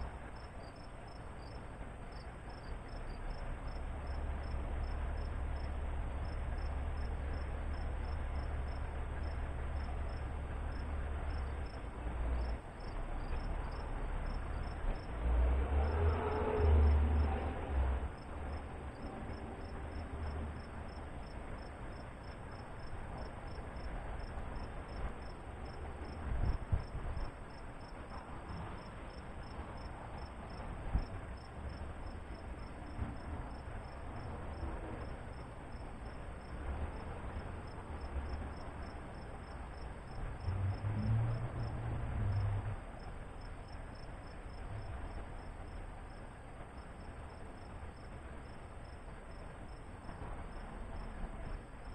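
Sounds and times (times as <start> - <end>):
faint low rumble: 0.0 - 51.9
insects chirping: 0.4 - 11.8, 12.4 - 15.1, 18.2 - 37.1, 43.0 - 51.9.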